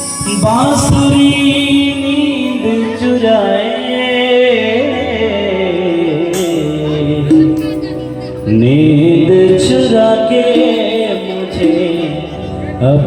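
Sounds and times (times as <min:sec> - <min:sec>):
ornamented melody with low accompaniment: 0:00.0 - 0:13.0.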